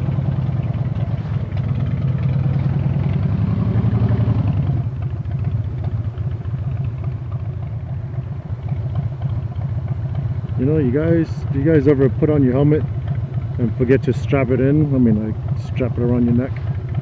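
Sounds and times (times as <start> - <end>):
motorcycle engine pulling away: 0.0 - 17.0.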